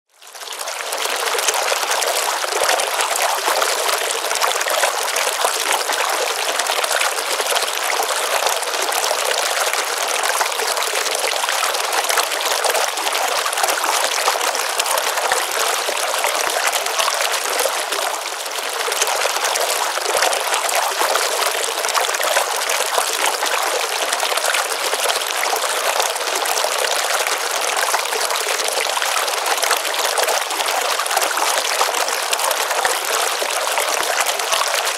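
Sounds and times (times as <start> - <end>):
stream trickling into pond: 0.1 - 34.9.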